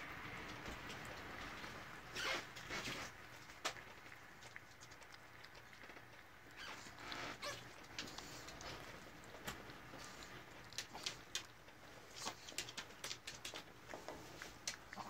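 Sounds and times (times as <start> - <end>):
rabbit chewing and licking: 0.0 - 15.0.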